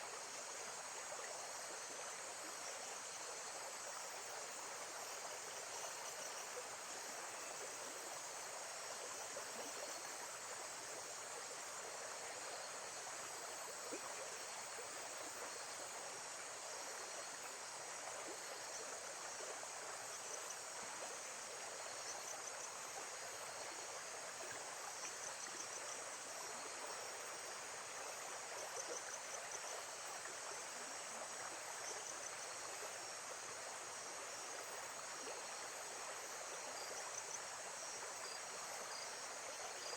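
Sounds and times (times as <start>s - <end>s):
insects chirping in high trills: 0.3s - 39.9s.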